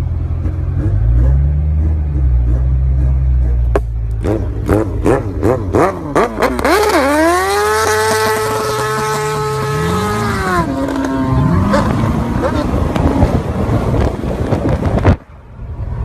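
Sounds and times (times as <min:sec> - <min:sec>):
engine revving: 0:00.0 - 0:15.1.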